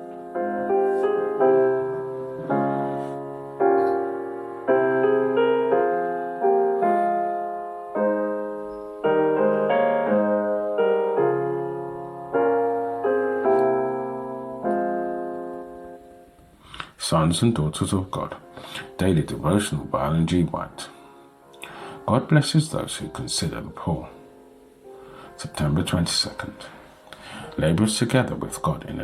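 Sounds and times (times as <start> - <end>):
slow piano chords: 0.0 - 29.0.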